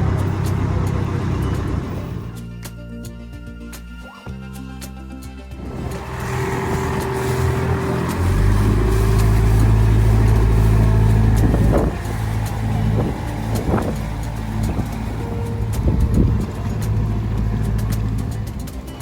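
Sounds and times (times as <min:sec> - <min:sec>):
vehicle engine rumbling: 0:00.0 - 0:02.5, 0:05.5 - 0:19.0.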